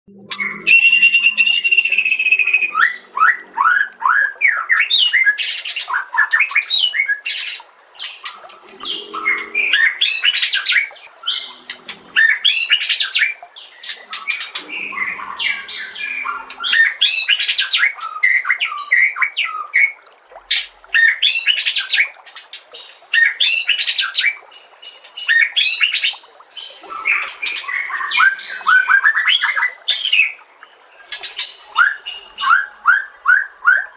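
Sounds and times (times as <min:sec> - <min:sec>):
bird singing varied phrases: 0:00.1 - 0:33.9.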